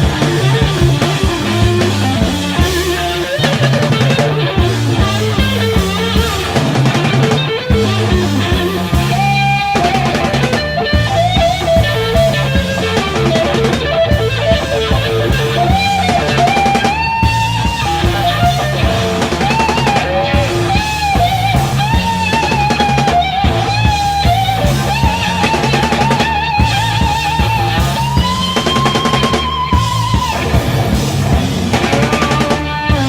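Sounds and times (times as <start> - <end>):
electric guitar solo: 0.0 - 33.0
rock drum kit: 0.0 - 33.0.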